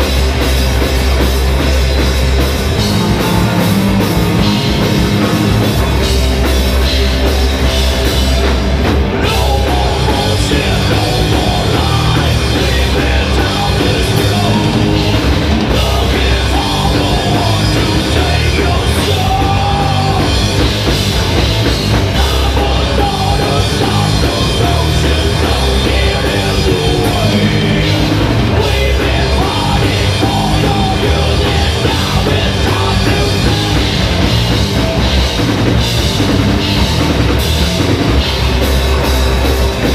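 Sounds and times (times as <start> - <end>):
bass guitar: 0.0 - 39.9
distorted electric guitar: 0.0 - 39.9
drum kit: 0.0 - 39.9.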